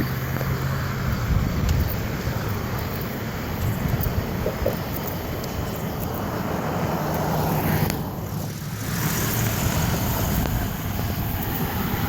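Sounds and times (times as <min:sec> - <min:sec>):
road traffic passing: 0:00.0 - 0:12.0
vehicle passing close: 0:00.0 - 0:12.0.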